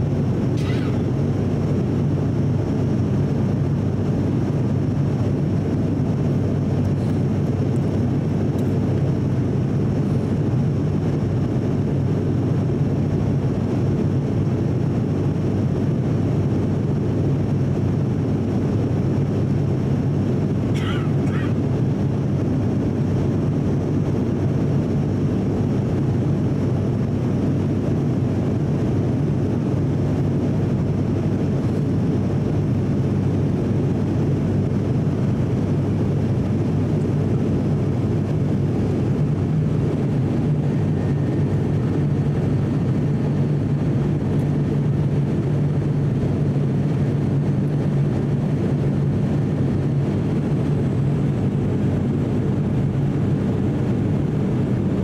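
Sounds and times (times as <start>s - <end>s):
engine and airflow noise: 0.0s - 55.0s
propeller hum: 0.0s - 55.0s.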